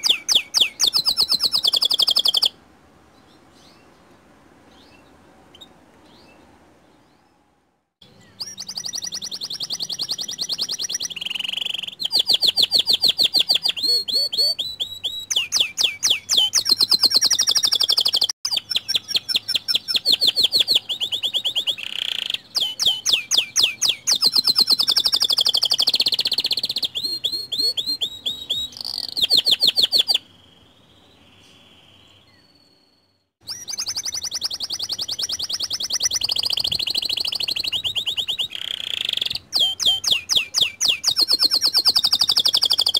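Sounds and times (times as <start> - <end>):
canary singing trills: 0.0 - 2.6, 8.0 - 42.9.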